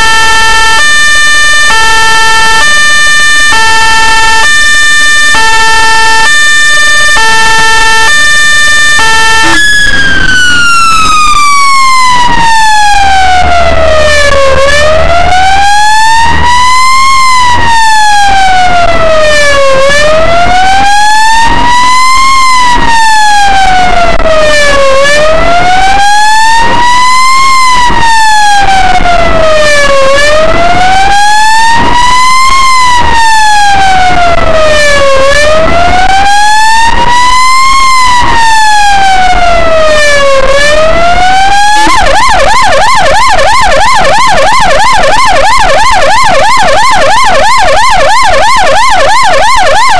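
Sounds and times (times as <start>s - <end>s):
ambulance siren: 0.0s - 49.9s.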